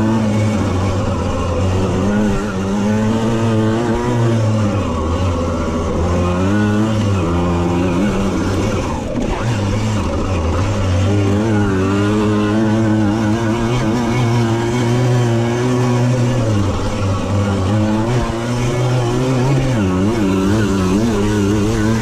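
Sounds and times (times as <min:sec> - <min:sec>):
moped engine revving: 0:00.0 - 0:22.0.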